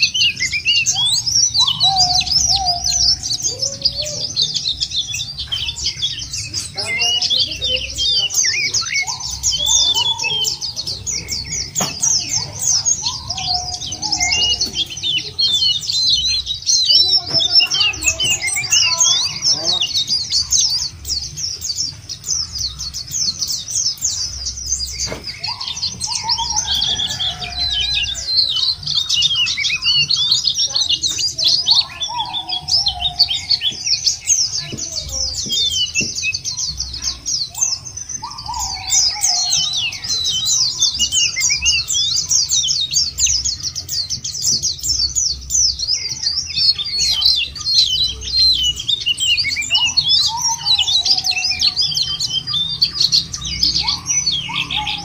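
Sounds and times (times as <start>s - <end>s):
birds twittering chorus: 0.0s - 55.0s.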